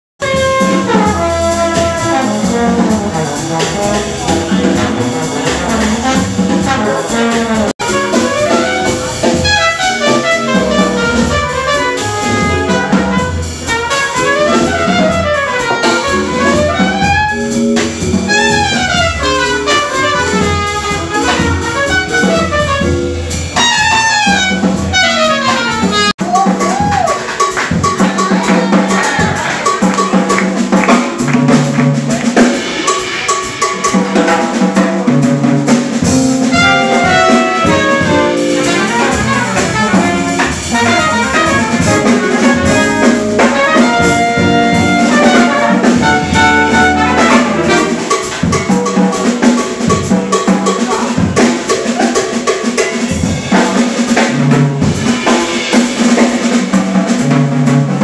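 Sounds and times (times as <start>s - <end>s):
trumpet: 0.2s - 51.4s
jazz band playing: 0.2s - 58.0s
trombone: 0.2s - 58.0s.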